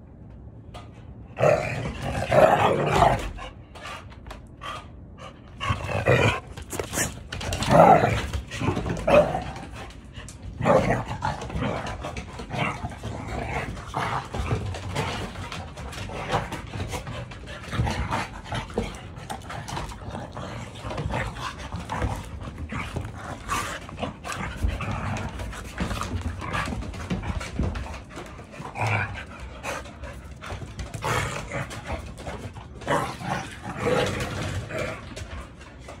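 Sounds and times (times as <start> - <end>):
dogs growling: 1.3 - 36.0.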